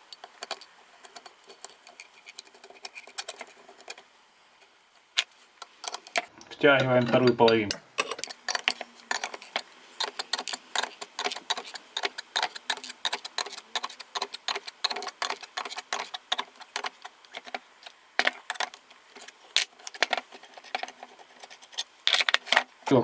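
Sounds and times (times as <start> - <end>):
metallic clicking of hand tools: 0.0 - 6.3, 7.4 - 23.0.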